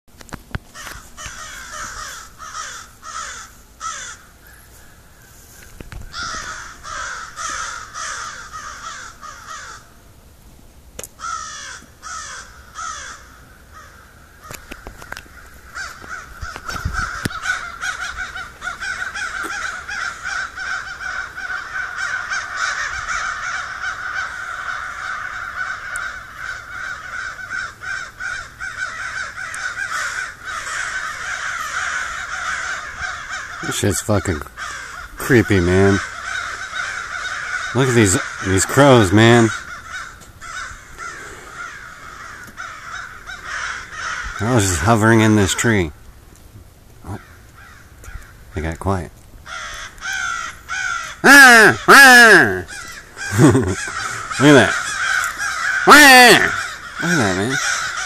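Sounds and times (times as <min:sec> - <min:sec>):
crows cawing: 0:00.7 - 0:10.0, 0:11.1 - 0:46.0, 0:47.0 - 0:58.0.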